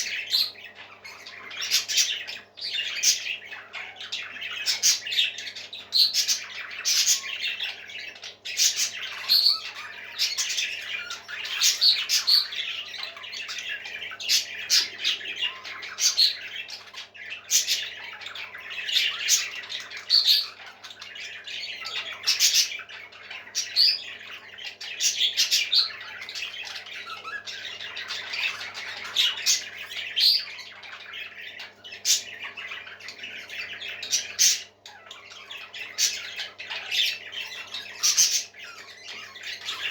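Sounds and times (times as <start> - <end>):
parrots squawking: 0.0 - 39.9.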